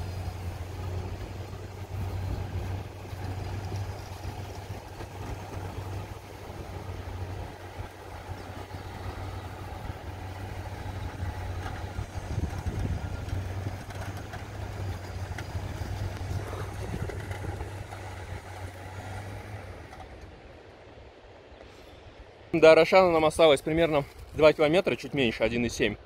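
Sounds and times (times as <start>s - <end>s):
off-road vehicle engine running: 0.0s - 26.0s
rough outdoor noise: 0.0s - 26.0s.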